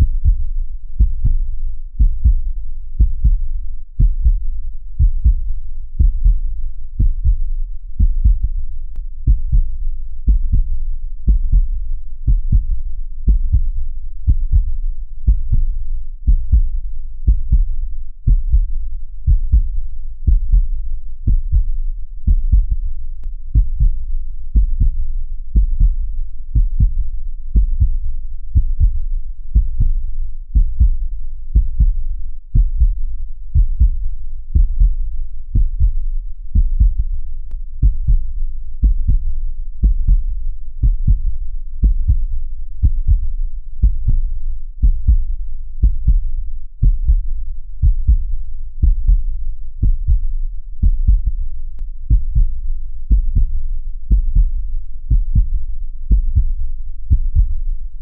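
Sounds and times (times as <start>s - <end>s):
heartbeat thumps: 0.0s - 57.6s.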